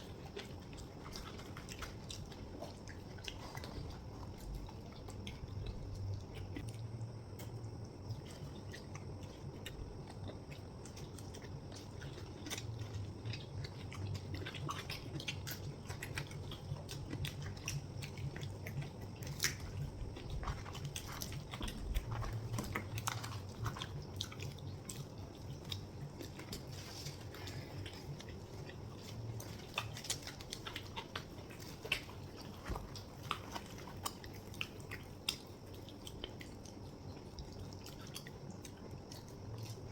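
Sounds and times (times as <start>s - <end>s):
chewing mouth clicks and smacks: 0.0s - 39.9s
low steady hum: 0.0s - 39.9s.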